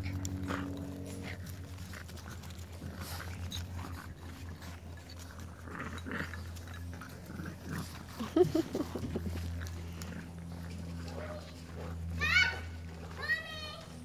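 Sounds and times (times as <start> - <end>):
puppies playing: 0.0 - 14.0
steady low hum: 0.0 - 14.0.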